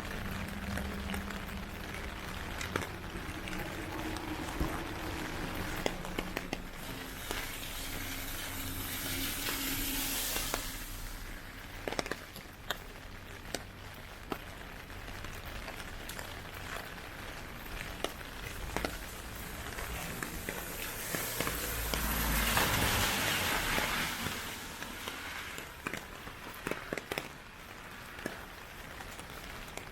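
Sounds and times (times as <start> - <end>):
heavy rain hissing: 0.0 - 28.5.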